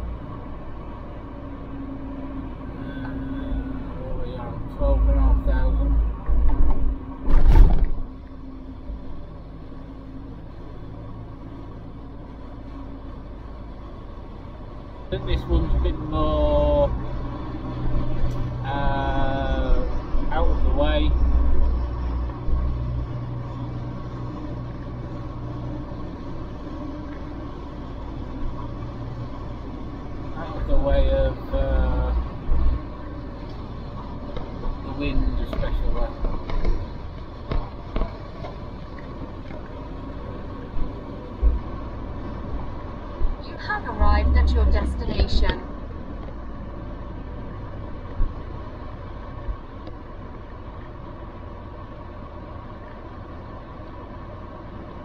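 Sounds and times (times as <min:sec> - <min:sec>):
car engine hum: 0:00.0 - 0:55.0
tyre and road noise: 0:00.0 - 0:55.0.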